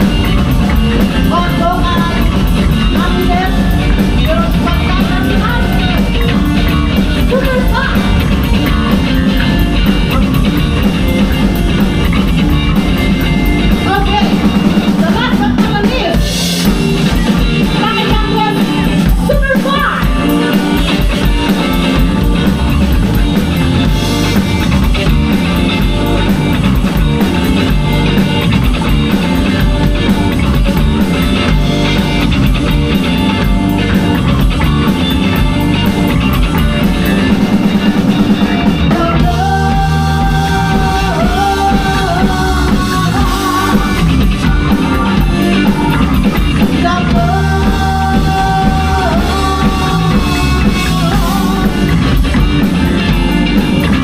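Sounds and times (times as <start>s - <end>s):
vocals: 0.0s - 28.4s, 29.0s - 54.0s
drum kit: 0.0s - 54.0s
electric guitar: 0.0s - 54.0s
live rock band playing: 0.0s - 54.0s
sustained melody line: 0.0s - 54.0s.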